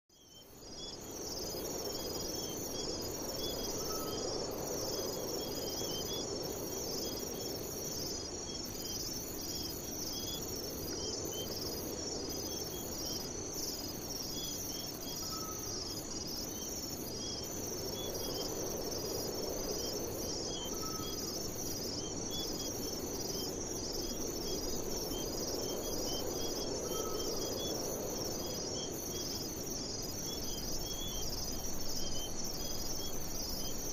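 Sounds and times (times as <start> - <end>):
higher insect trill: 0.2 - 33.9
insects trilling: 0.2 - 33.9.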